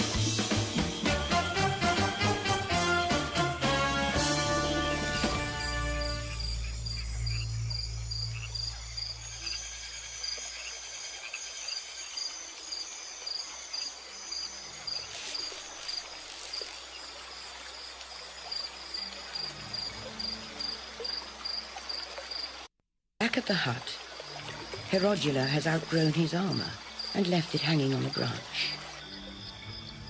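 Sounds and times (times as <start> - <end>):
forest ambience: 0.0 - 30.0
insect chirping: 5.0 - 22.7, 23.5 - 30.0.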